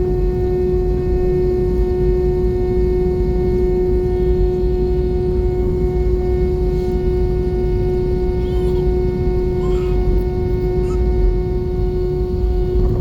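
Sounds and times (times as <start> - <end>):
aircraft engine drone: 0.0 - 13.0
constant engine whine: 0.0 - 13.0
deep rumble: 0.0 - 13.0.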